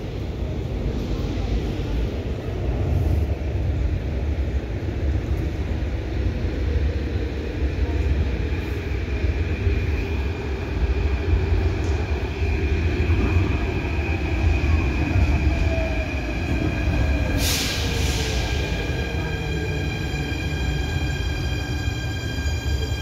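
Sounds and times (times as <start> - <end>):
train rumbling in tunnel: 0.0 - 23.0.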